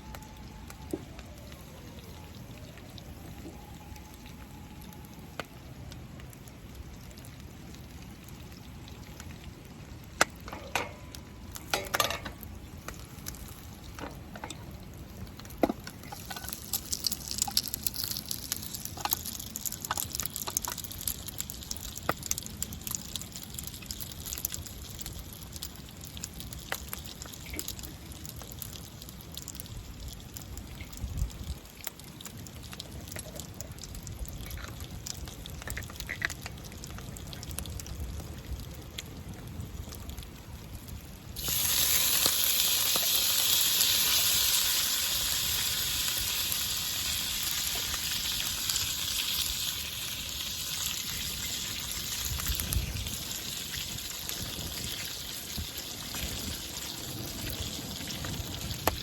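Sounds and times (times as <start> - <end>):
dumplings sizzling in a pan: 6.5 - 39.0, 41.3 - 59.0.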